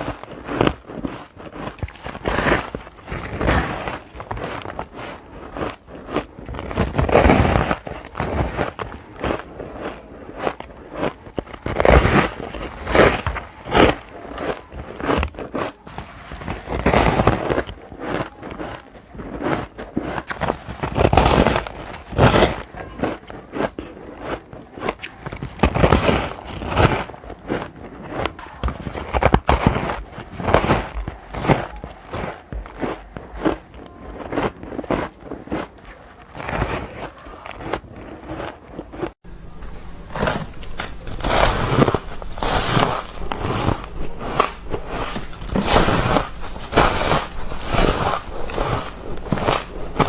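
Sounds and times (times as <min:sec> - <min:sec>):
ice crunching in mouth: 0:00.0 - 0:50.0.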